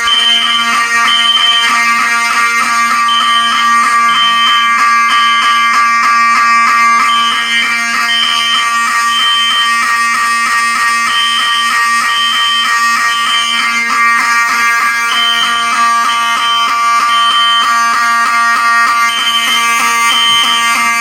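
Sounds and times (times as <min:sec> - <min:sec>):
buzzing alarm horn: 0:00.0 - 0:21.0
pulsing high alarm tone: 0:00.0 - 0:21.0.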